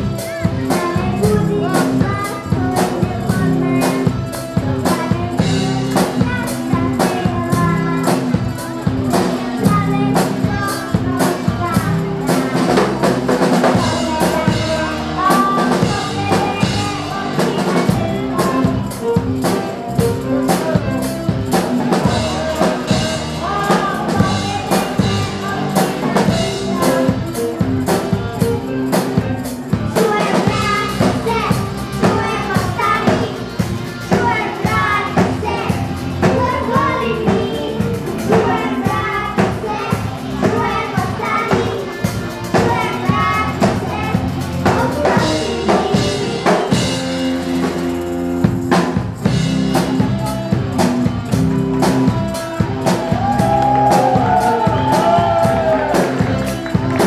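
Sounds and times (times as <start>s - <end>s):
children singing: 0.0s - 47.8s, 51.9s - 57.0s
rock band playing live: 0.0s - 57.0s.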